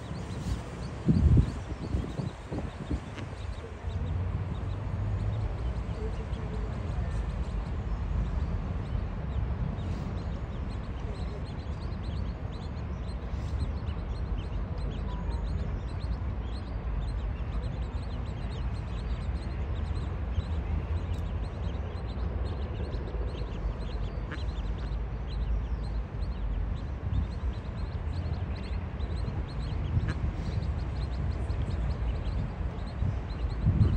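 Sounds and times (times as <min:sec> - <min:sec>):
ducklings peeping: 0:00.0 - 0:33.9.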